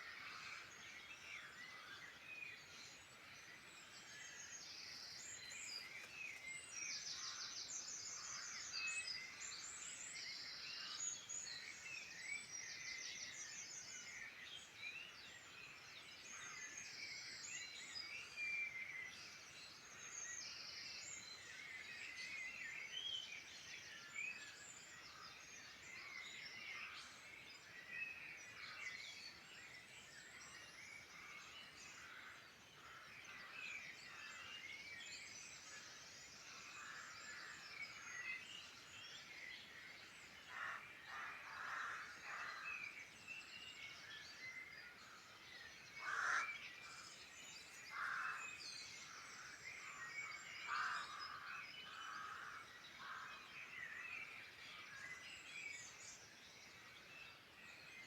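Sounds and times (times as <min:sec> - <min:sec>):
wild birds singing: 0:00.0 - 0:58.0.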